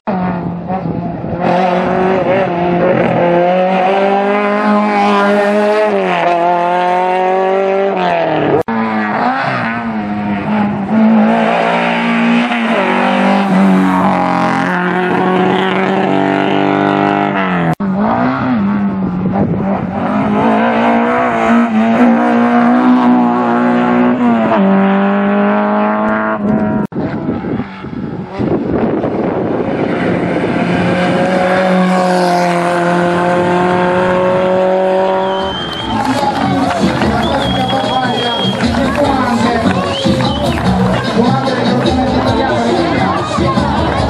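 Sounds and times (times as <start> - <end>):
rally cars passing at full throttle: 0.1 - 44.0.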